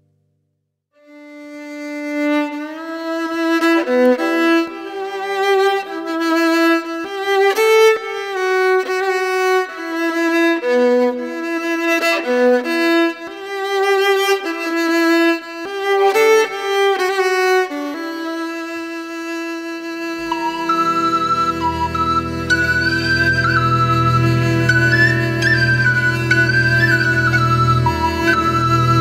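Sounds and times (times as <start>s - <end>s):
instrumental melody: 1.0s - 29.0s.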